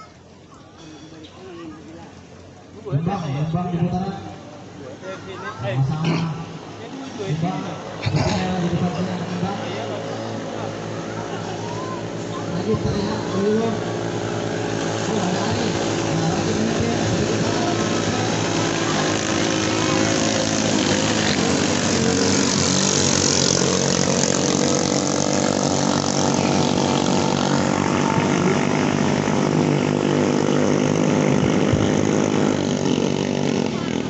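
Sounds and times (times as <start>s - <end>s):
racing boat engines high-revving: 0.0s - 34.0s.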